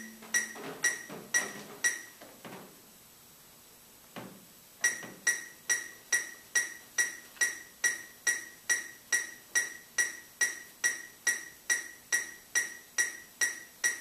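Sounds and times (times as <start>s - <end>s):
metronome clicking: 0.0s - 2.2s, 4.8s - 14.0s.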